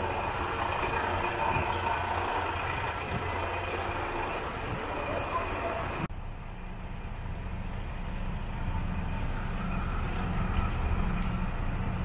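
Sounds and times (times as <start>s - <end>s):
diesel railcar engine rumbling: 0.0s - 12.0s.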